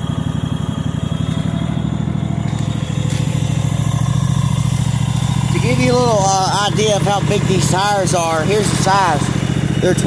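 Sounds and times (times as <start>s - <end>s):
garden tractor engine running: 0.0s - 10.0s.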